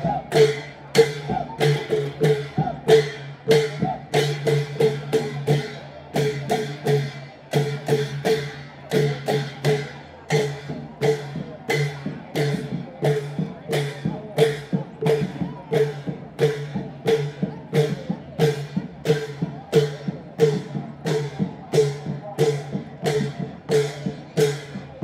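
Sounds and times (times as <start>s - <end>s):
long drums marching rhythm: 0.0s - 25.0s
ringing cymbal clashes: 0.3s - 24.9s.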